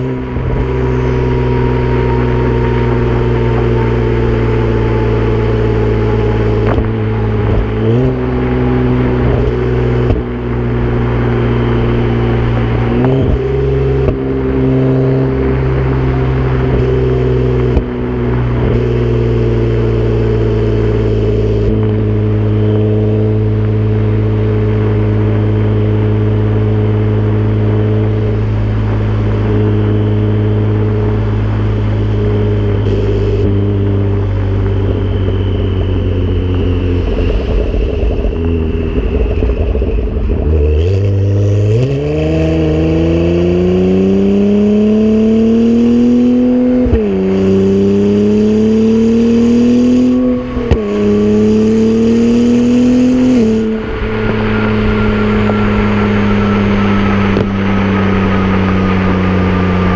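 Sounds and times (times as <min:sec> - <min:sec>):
car exhaust accelerating and shifting: 0:00.0 - 0:59.9.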